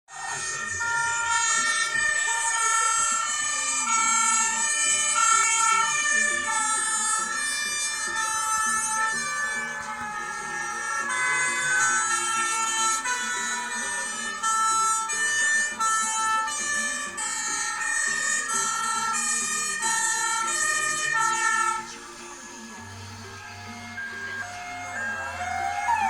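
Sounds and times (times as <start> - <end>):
musical truck horn playing a tune: 0.1 - 26.0.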